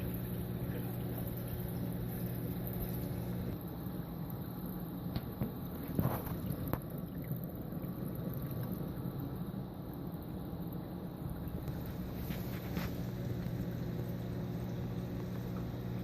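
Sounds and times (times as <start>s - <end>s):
low hum: 0.0s - 16.0s
water gurgle: 0.0s - 16.0s.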